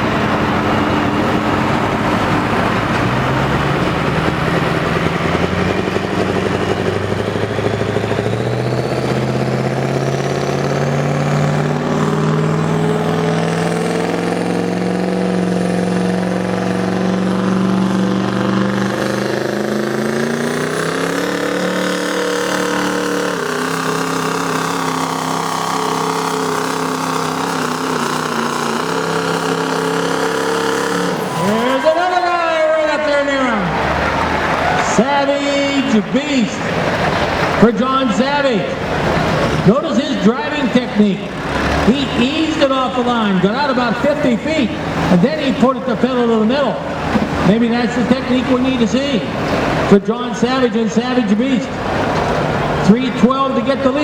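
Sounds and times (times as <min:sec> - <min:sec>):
pickup engine revving: 0:00.0 - 0:54.0.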